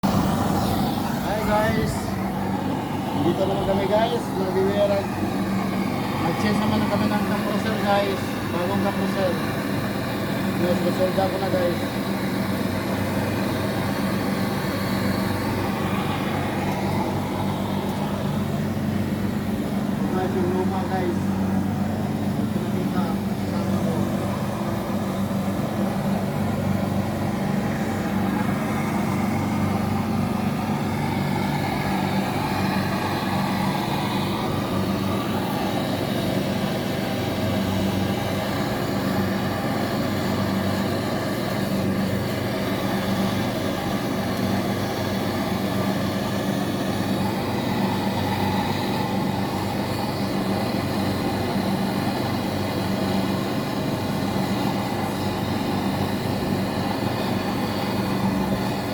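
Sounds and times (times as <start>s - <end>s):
machinery droning: 0.0s - 58.9s.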